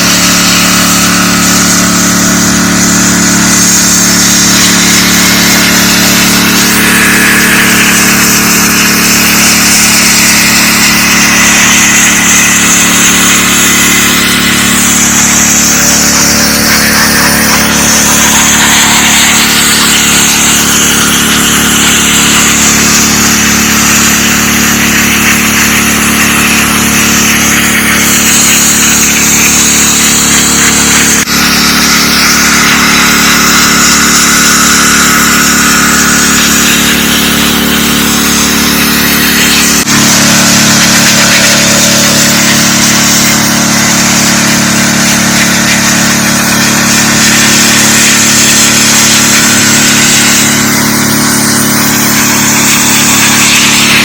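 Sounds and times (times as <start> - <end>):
pressure washer engine drone: 0.0 - 54.0
water jet hissing on concrete: 0.0 - 54.0.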